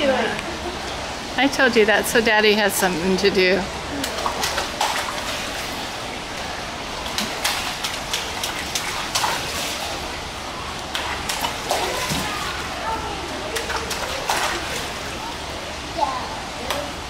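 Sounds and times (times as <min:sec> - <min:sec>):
running water: 0:00.0 - 0:17.0
water splashes: 0:00.0 - 0:17.0.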